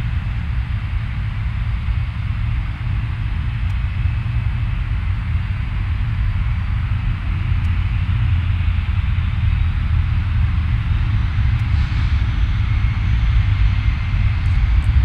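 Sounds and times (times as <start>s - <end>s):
jet engines rumbling with hiss: 0.0s - 15.0s.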